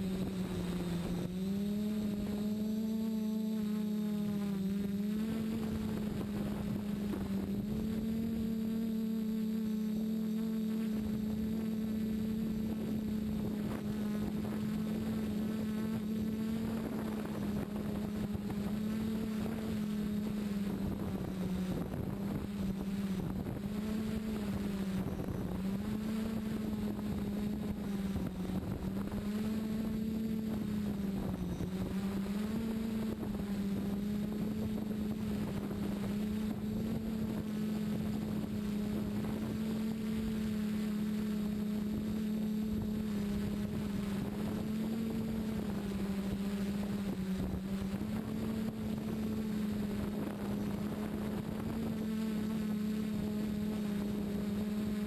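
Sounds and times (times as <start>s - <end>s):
drone buzzing: 0.0s - 55.0s
wind on microphone: 10.9s - 55.0s.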